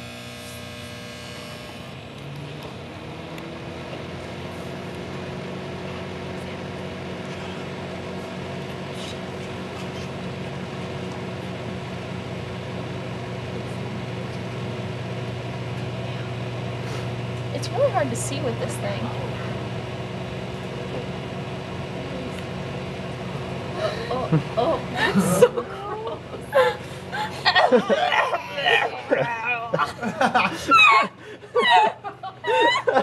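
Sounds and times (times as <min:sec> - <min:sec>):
microwave oven humming: 0:00.0 - 0:33.0.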